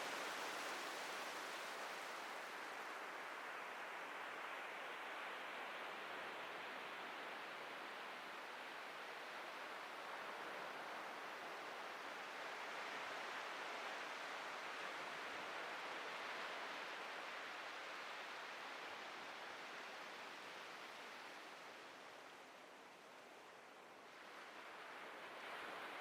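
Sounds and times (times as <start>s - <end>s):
ocean surf washing on beach: 0.0s - 26.0s.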